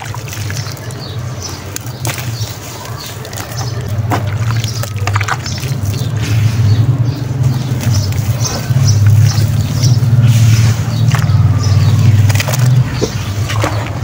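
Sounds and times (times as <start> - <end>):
small splashes: 0.0 - 14.0.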